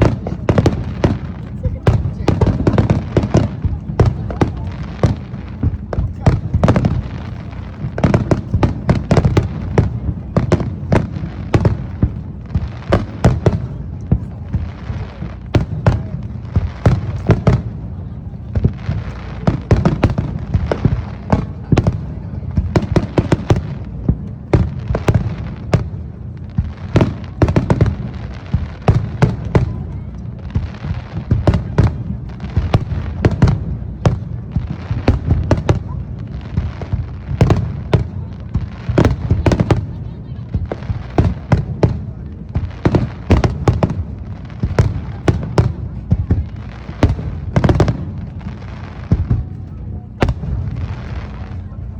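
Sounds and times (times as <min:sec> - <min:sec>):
crackling firework sparks: 0:00.0 - 0:51.9
fireworks cracks and booms: 0:00.0 - 0:51.9.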